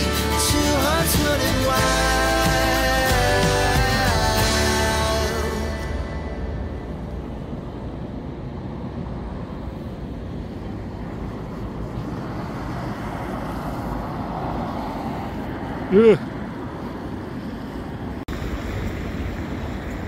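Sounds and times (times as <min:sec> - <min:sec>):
cars passing on street: 0:00.0 - 0:20.0.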